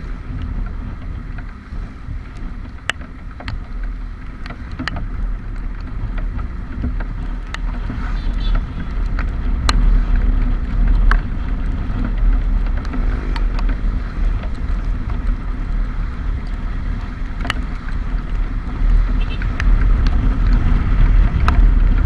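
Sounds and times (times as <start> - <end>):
vehicle rumble: 0.0 - 22.0
wind buffeting microphone: 0.0 - 22.0.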